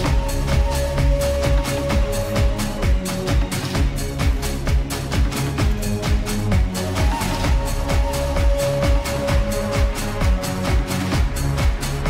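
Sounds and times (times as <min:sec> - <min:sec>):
electronic dance music: 0:00.0 - 0:12.0
kick drum beat: 0:00.0 - 0:12.0.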